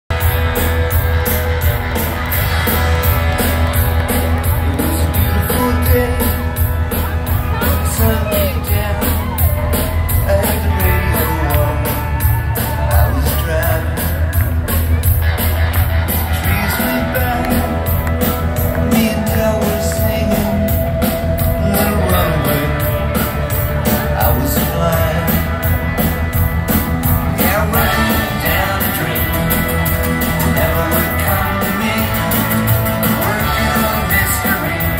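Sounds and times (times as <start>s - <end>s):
live rock band: 0.1s - 34.9s.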